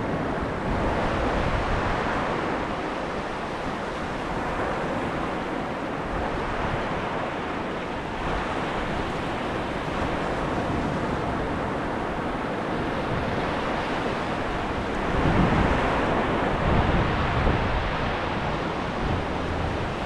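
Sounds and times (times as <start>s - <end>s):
small waves breaking on beach: 0.0s - 20.0s
wind rumble on microphone: 0.0s - 20.0s.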